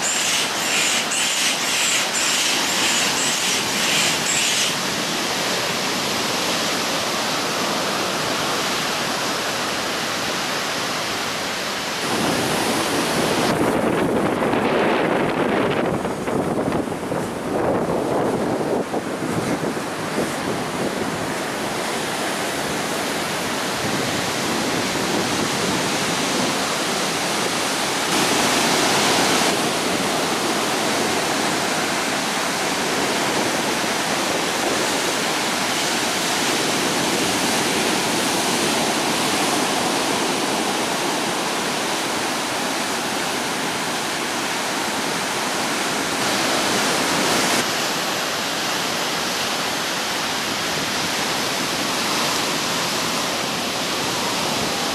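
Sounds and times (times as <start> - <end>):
ocean surf washing up: 0.0 - 54.9.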